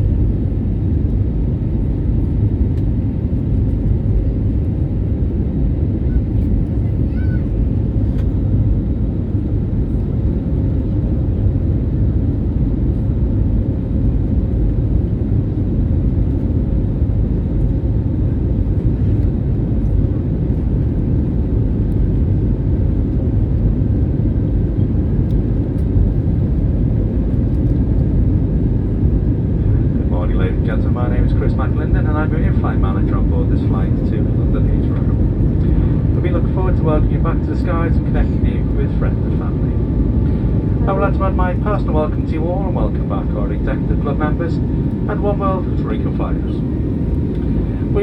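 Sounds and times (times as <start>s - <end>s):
airplane cabin engine roar: 0.0s - 48.0s.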